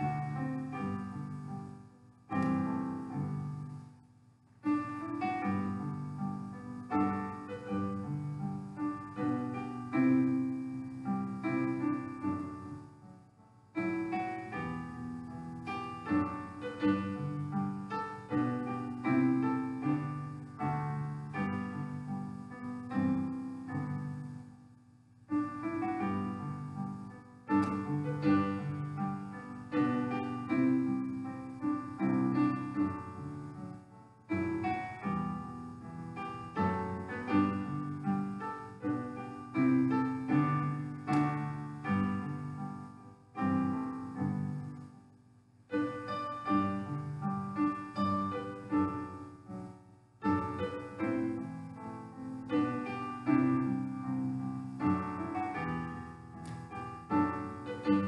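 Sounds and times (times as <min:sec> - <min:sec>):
solo piano music: 0:00.0 - 0:58.0.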